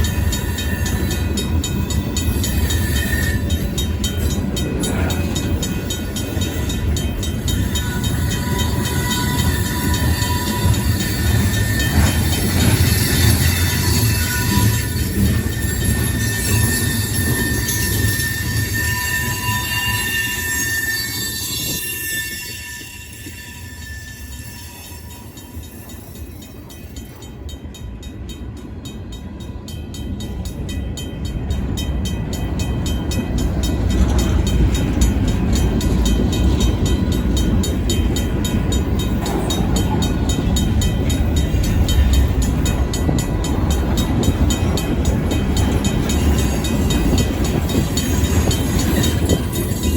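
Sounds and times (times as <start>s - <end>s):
train wheels squealing: 0.0s - 27.9s, 31.2s - 49.9s
low rumble of train: 0.0s - 49.9s.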